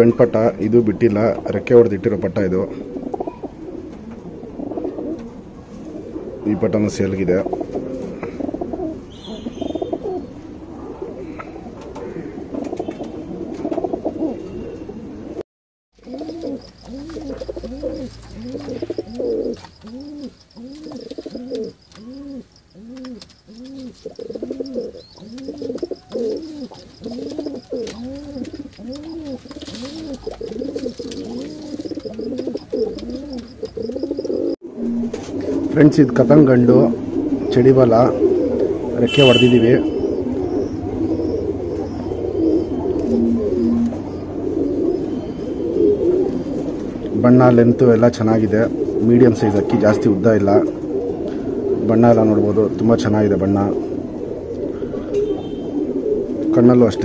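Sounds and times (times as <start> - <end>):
pigeons cooing: 0.0 - 15.4, 16.0 - 57.0.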